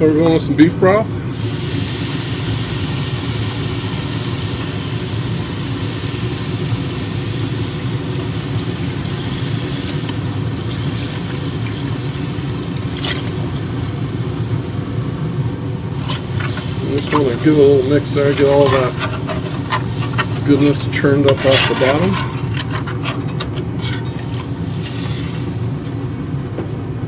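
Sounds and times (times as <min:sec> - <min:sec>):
steady low hum: 0:00.0 - 0:27.0
broth splashing and sizzling: 0:01.4 - 0:14.6, 0:15.8 - 0:25.7.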